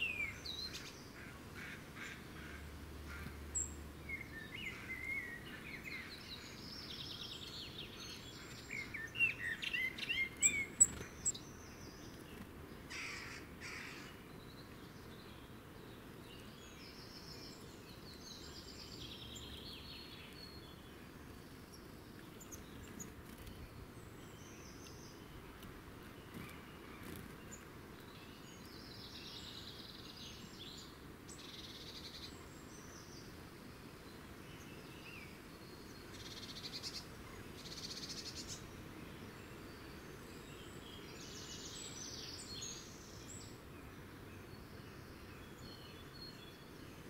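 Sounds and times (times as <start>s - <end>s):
small songbirds chirping: 0.0s - 47.0s.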